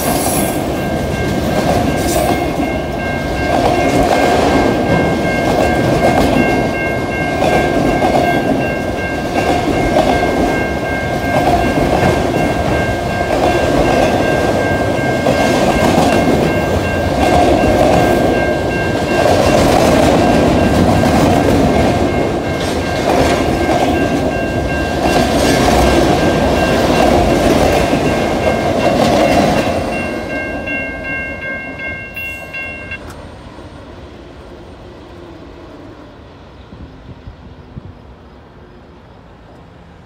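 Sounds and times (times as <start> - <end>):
crossing warning bell ringing: 0.0 - 33.7.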